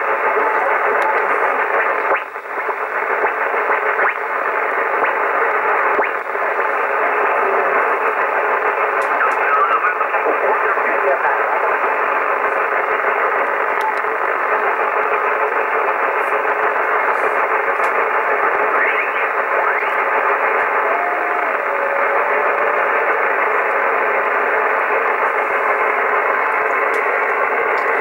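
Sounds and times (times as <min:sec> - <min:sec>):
radio band noise hiss: 0:00.0 - 0:28.0.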